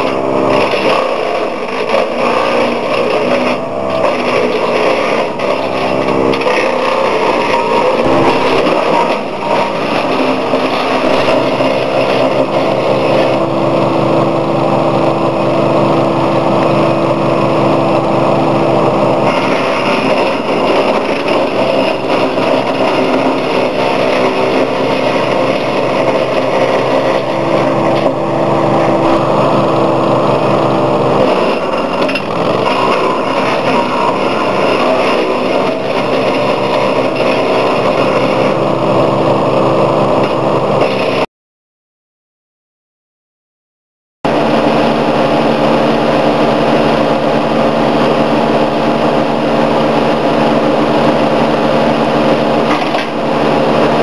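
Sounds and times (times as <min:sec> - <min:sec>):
wood chipper engine running: 0:00.0 - 0:41.3, 0:44.3 - 0:54.0.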